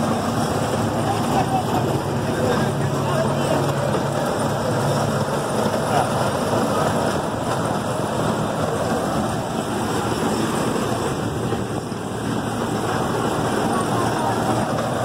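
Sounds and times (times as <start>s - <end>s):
miniature train running on track: 0.0s - 15.0s.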